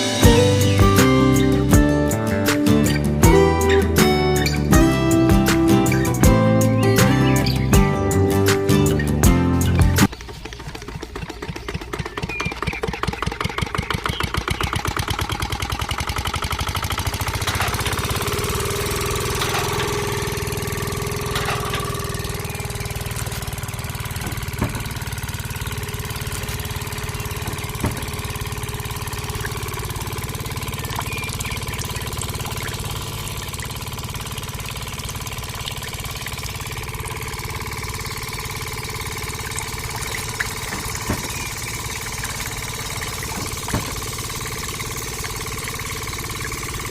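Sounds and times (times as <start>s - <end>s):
small motor running: 2.7s - 46.9s.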